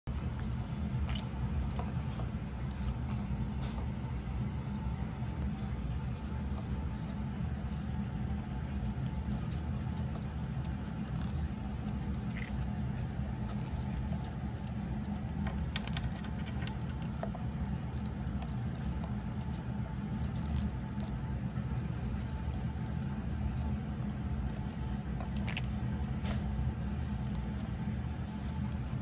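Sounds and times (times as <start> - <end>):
low hum: 0.0 - 29.0
parrots crunching fruit: 0.1 - 29.0.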